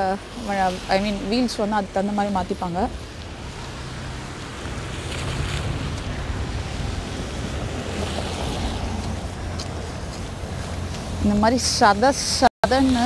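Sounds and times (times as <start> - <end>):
wind buffeting microphone: 0.0 - 12.1
tyres hissing on wet road: 0.0 - 13.0.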